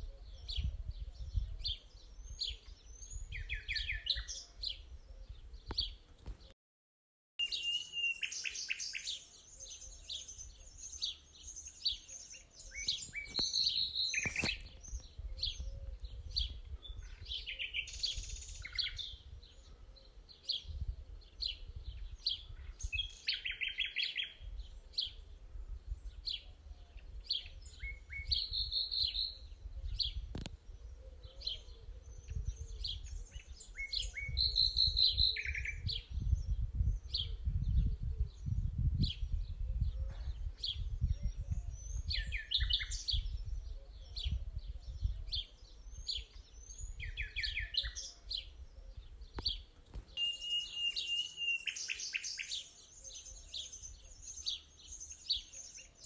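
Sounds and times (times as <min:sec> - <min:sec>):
small birds chirping and trilling: 0:00.0 - 0:06.5, 0:07.4 - 0:56.0.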